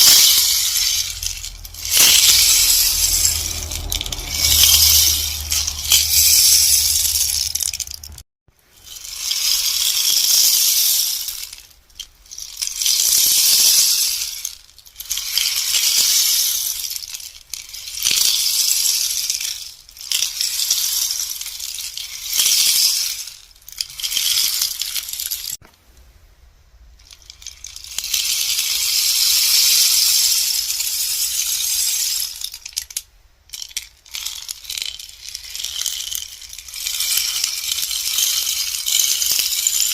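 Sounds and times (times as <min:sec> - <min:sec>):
rainstick pellets rattling: 0:00.0 - 0:25.6, 0:27.0 - 0:39.9.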